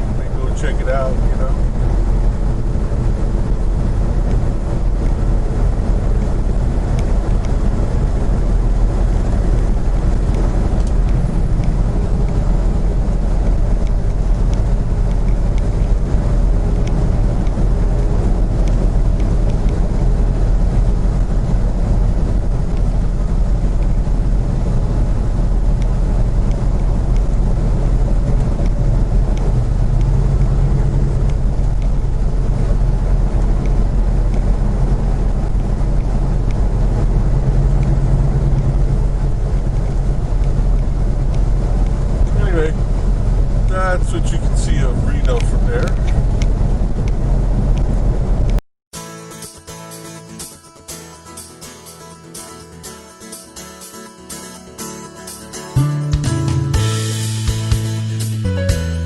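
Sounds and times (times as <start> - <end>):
vehicle engine drone: 0.0 - 48.6, 49.4 - 59.0
road noise: 0.0 - 59.0.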